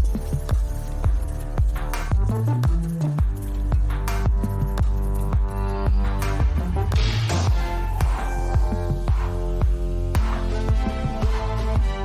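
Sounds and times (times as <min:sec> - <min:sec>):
electronic music with deep bass: 0:00.0 - 0:12.0.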